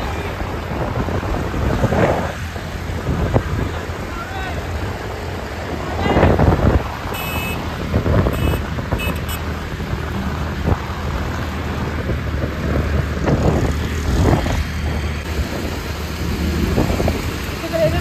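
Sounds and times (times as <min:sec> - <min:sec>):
motorbike engine drone: 0:00.0 - 0:18.0
road and traffic noise: 0:00.0 - 0:18.0.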